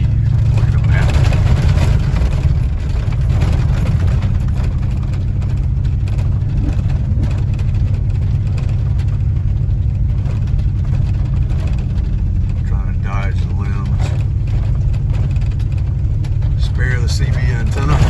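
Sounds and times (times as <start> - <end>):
truck engine drone inside cab: 0.0 - 18.0.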